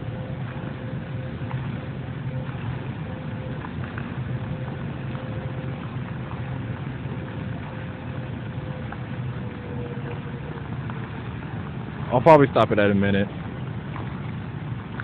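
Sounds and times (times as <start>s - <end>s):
drip-like ticks: 0.0s - 15.0s
faint steady whine: 0.0s - 15.0s
low hum: 0.0s - 15.0s
water jets splashing into pool: 0.0s - 15.0s.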